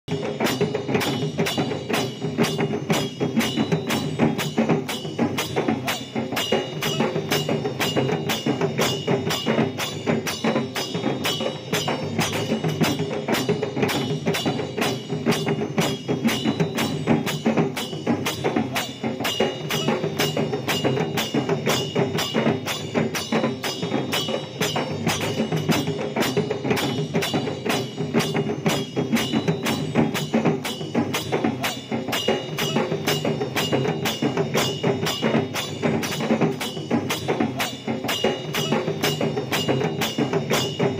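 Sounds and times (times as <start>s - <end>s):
drums playing dance beat: 0.0s - 40.9s
other percussion: 0.0s - 40.9s.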